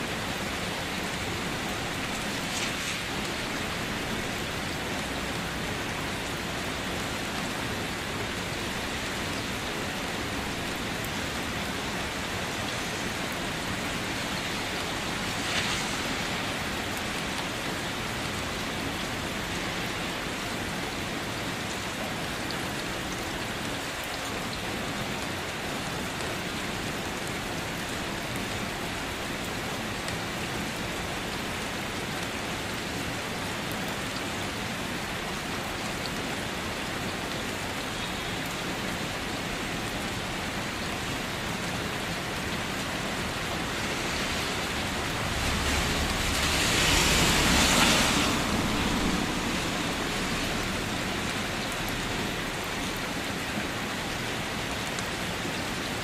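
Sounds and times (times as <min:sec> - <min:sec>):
heavy rainfall: 0:00.0 - 0:56.0.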